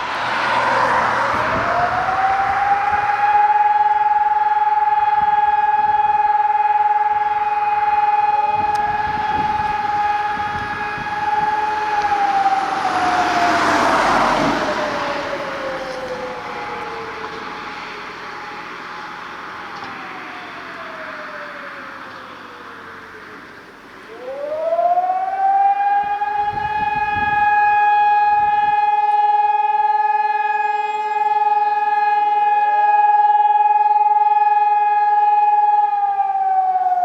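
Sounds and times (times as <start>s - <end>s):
alarm siren wailing: 0.0s - 37.0s
fainter siren tone: 0.0s - 37.0s.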